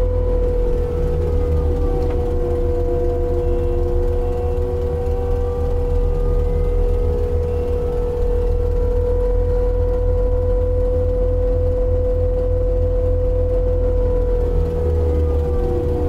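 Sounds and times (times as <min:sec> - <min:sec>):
low engine drone: 0:00.0 - 0:16.0
mulcher head high whine: 0:00.0 - 0:16.0.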